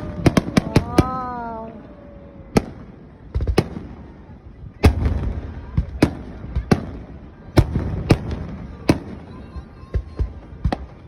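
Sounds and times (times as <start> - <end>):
fireworks bangs: 0.0 - 11.0
small fireworks pops: 0.0 - 11.0.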